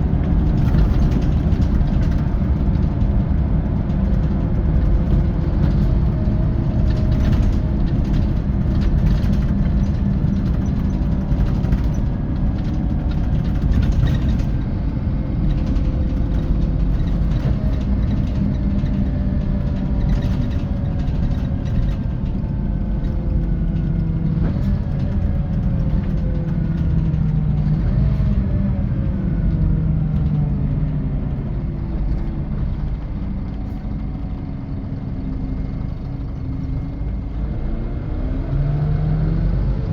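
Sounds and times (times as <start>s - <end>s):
diesel bus engine rumble: 0.0s - 39.9s
road noise: 0.0s - 39.9s.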